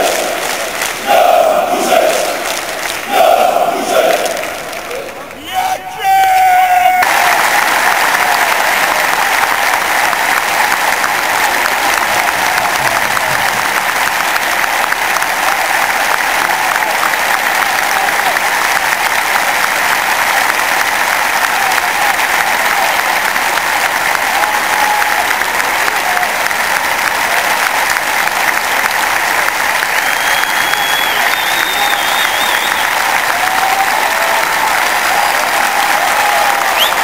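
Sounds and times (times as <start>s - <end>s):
stadium crowd applauding: 0.0s - 37.0s.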